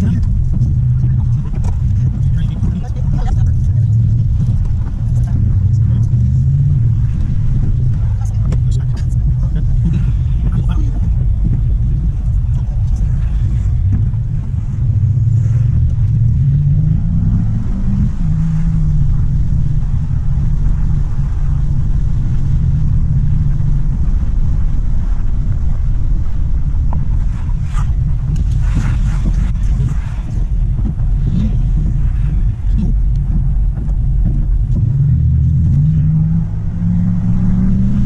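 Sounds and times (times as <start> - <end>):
car engine rumble: 0.0 - 38.0
road noise on wet road: 0.0 - 38.0.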